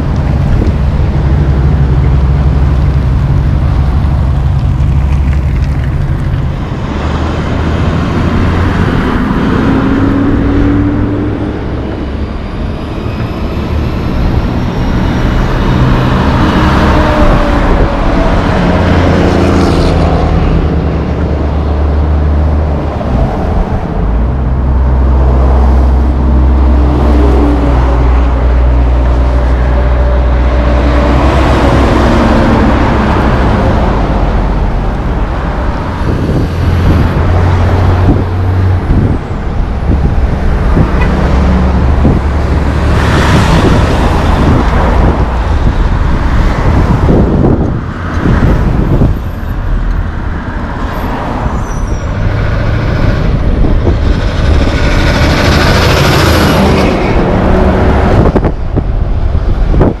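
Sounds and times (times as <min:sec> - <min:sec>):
diesel trucks passing: 0:00.0 - 1:00.0
road traffic: 0:00.0 - 1:00.0.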